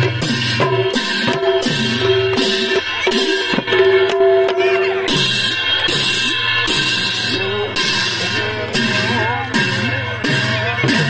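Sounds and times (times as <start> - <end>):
barrel drums beaten: 0.0 - 11.0
hand cymbals clashing: 0.0 - 11.0.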